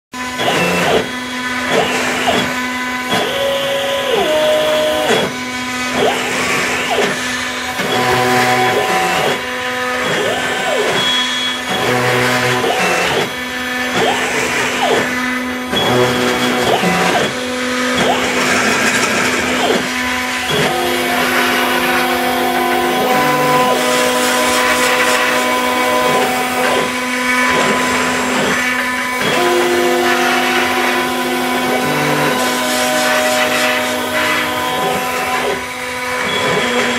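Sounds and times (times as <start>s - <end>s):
steady motor hum: 0.2s - 36.9s
stepper motors whining: 0.2s - 36.9s.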